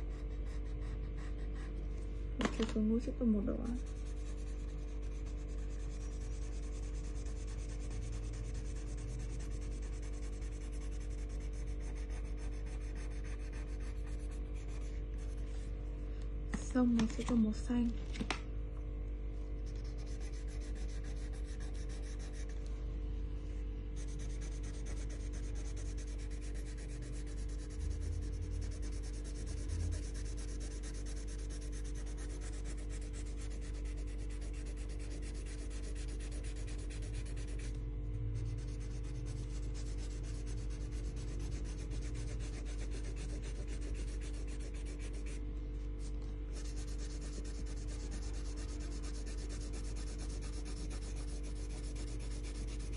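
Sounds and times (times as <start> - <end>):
low electrical hum: 0.0 - 52.9
colouring tool scrubbing on paper: 3.6 - 15.6, 19.6 - 22.5, 24.0 - 37.8, 38.6 - 52.9.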